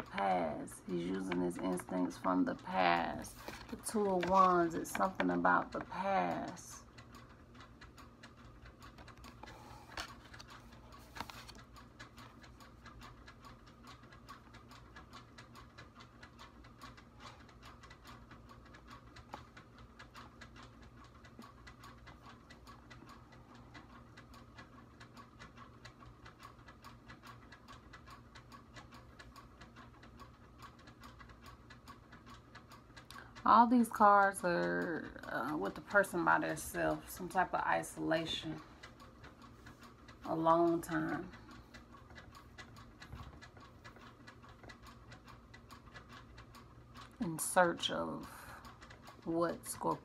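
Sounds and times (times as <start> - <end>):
clock ticking: 0.0 - 50.0
low electrical hum: 0.0 - 50.0.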